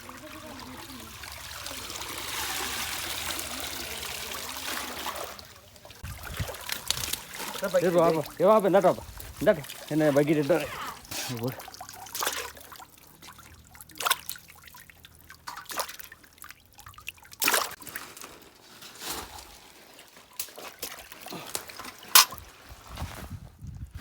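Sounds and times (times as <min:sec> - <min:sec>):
water splashing and trickling: 0:00.0 - 0:23.4.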